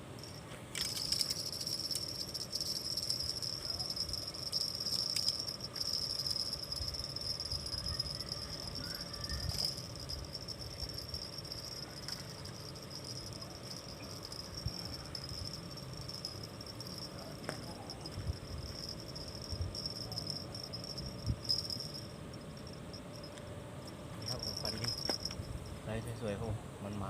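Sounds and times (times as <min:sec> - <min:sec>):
insects chirring: 0:00.0 - 0:26.6.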